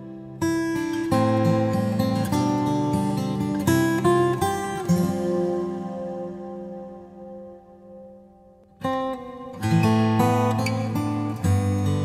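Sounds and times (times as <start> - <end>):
strummed guitar chords: 0.0 - 12.0.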